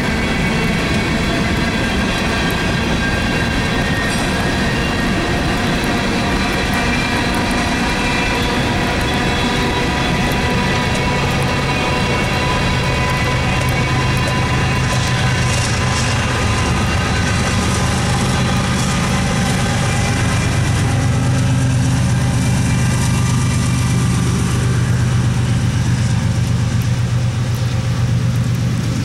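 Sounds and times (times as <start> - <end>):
diesel locomotives engine drone: 0.0 - 29.0.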